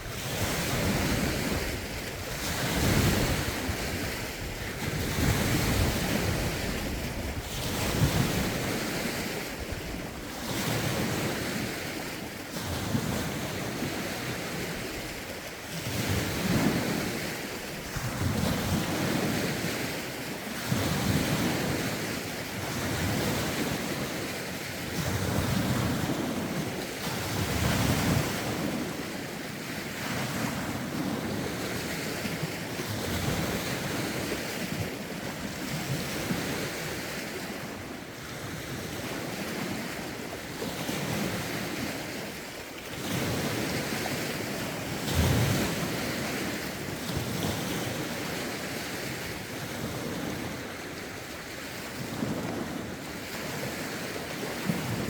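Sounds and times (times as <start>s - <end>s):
wind buffeting microphone: 0.0s - 20.0s, 25.0s - 55.0s
lake waves washing in: 0.0s - 55.0s.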